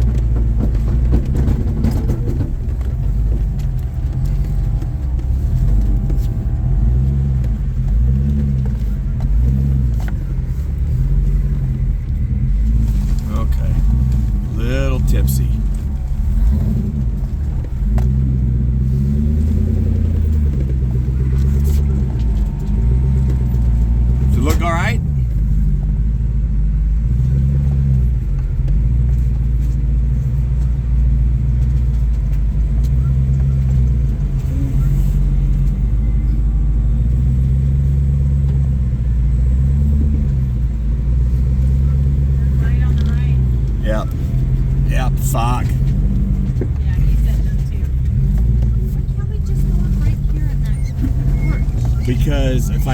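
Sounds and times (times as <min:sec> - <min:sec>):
vehicle engine revving: 0:00.0 - 0:52.9.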